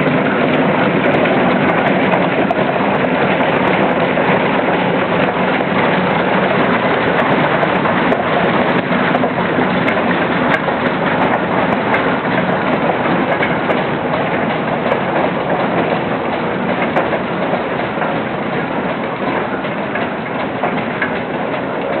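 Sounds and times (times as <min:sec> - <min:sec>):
steam tractor clattering: 0:00.0 - 0:22.0.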